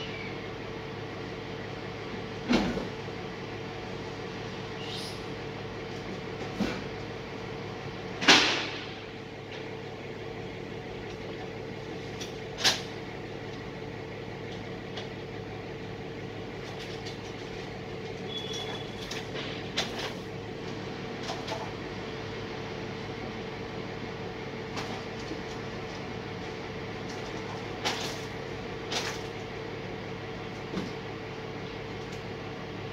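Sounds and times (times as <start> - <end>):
truck engine and hydraulics humming: 0.0 - 32.9.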